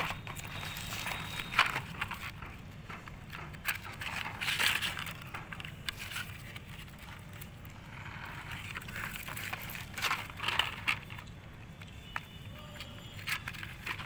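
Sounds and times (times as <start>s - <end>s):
cardboard rustling and scraping: 0.0s - 11.4s, 12.6s - 14.0s.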